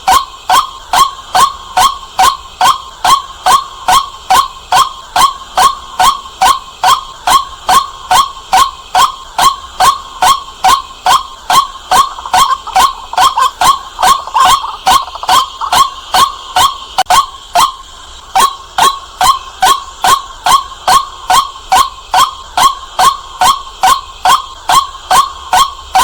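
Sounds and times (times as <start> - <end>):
bird calling sharp notes: 0.0 - 26.0.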